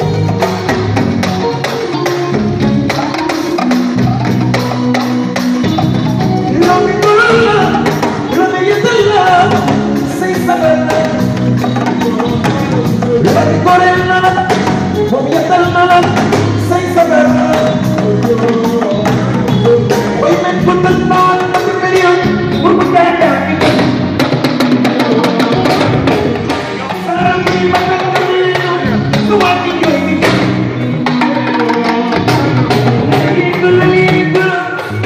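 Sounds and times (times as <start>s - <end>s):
live band playing: 0.0s - 35.0s
man singing: 0.0s - 35.0s.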